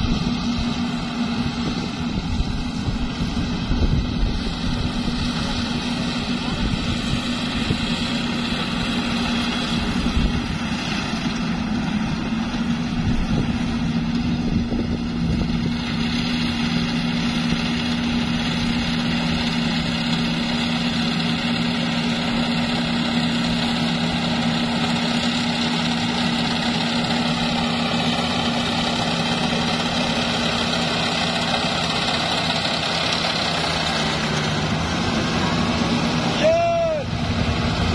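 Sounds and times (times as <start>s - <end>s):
combine harvester engine drone: 0.0s - 37.9s
low hum: 0.0s - 37.9s.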